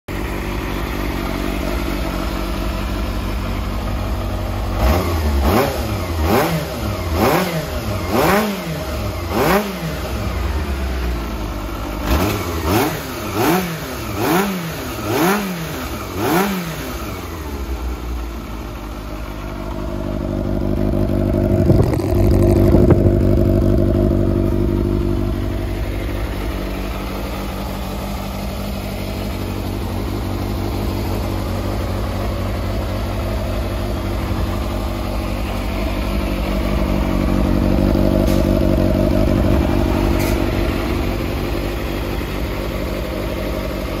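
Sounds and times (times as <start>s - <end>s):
motorcycle engine revving: 0.1s - 44.0s.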